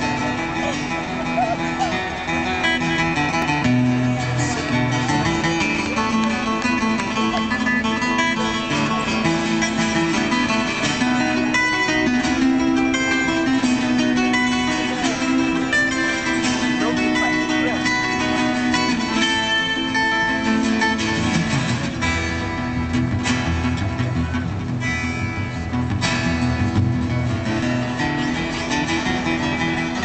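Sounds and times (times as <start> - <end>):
plucked guitar notes: 0.0 - 30.0
strummed guitar chords: 0.0 - 30.0.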